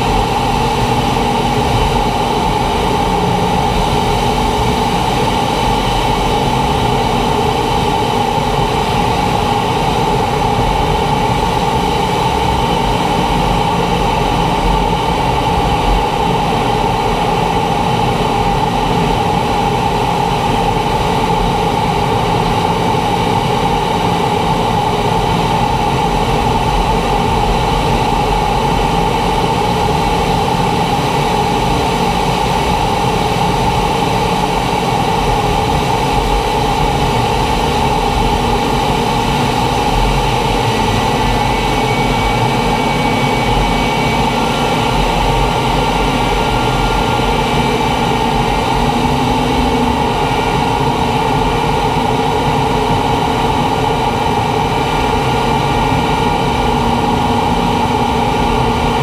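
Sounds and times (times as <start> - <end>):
jet flying low: 0.0 - 59.0.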